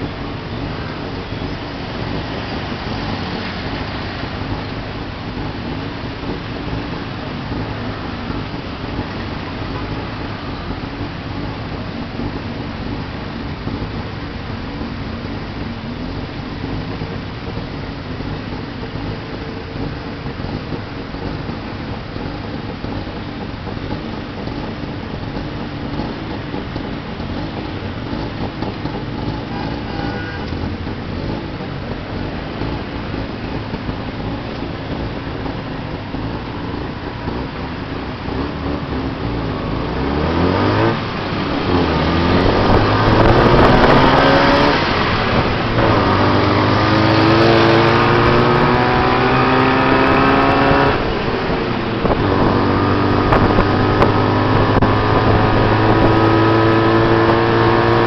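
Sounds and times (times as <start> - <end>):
road and traffic noise: 0.0 - 58.0.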